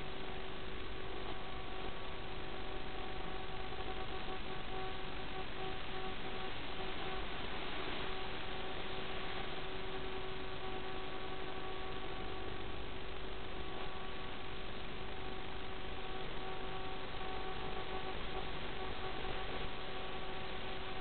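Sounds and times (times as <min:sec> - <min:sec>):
faint tonal hum: 0:00.0 - 0:21.0
steady hiss: 0:00.0 - 0:21.0.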